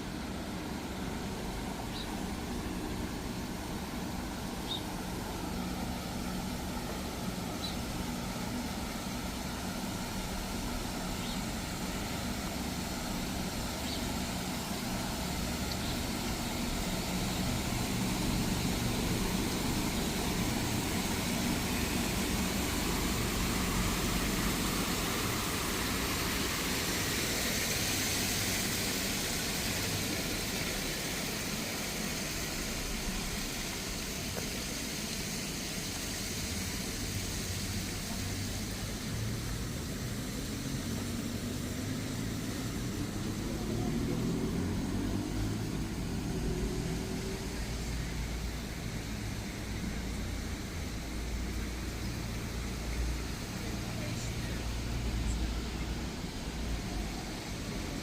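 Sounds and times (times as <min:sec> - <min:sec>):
car engines running: 0:00.0 - 0:58.0
tyre hiss of passing vehicle: 0:00.0 - 0:58.0.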